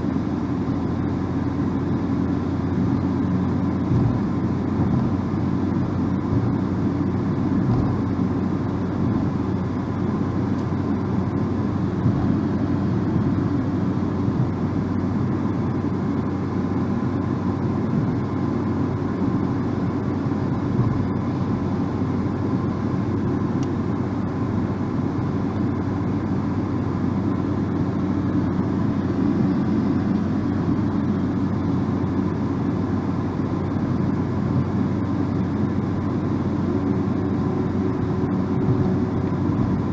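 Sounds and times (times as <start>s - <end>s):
car road noise from inside: 0.0s - 39.9s.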